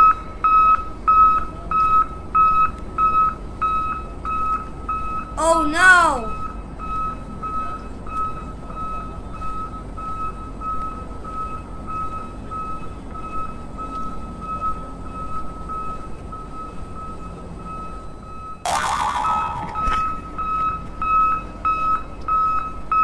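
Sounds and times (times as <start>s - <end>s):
reversing alarm beeping: 0.0s - 5.4s, 6.3s - 23.0s.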